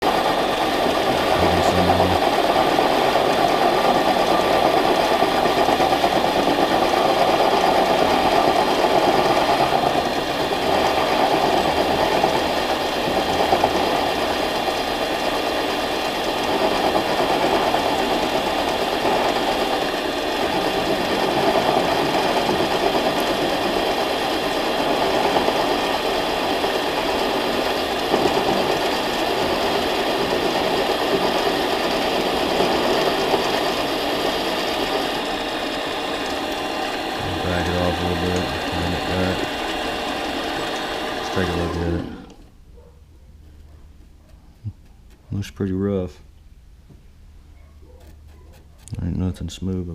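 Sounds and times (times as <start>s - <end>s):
lathe running: 0.0s - 42.6s.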